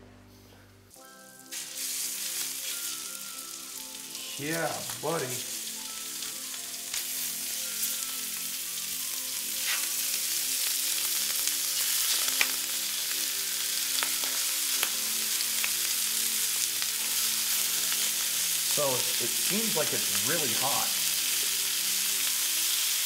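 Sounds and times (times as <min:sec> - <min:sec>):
food sizzling in skillet: 0:00.9 - 0:23.0.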